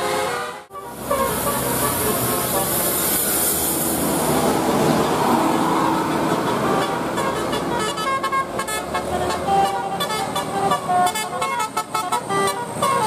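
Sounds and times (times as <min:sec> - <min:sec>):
multi-tone bus air horn: 0:00.0 - 0:04.4, 0:05.5 - 0:13.0.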